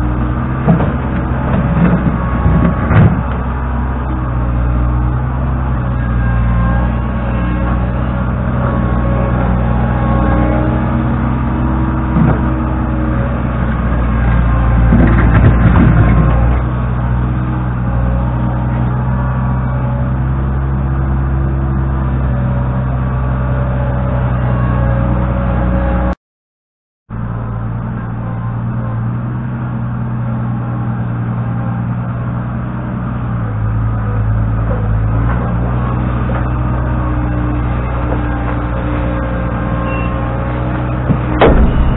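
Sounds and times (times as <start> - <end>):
diesel engine running: 0.0 - 26.1, 27.1 - 41.9.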